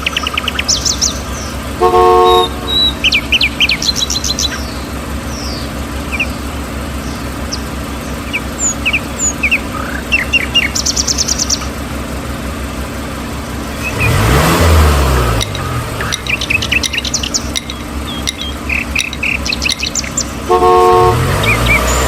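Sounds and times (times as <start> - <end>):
low motor hum: 0.0 - 22.0
small birds chirping: 0.0 - 22.0.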